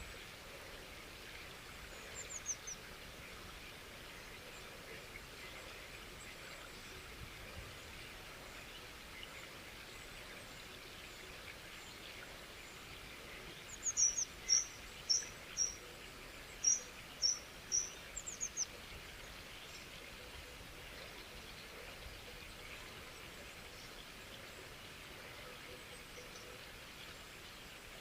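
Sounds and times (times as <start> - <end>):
faint outdoor background hiss: 0.0 - 28.0
songbird chirping: 0.0 - 28.0.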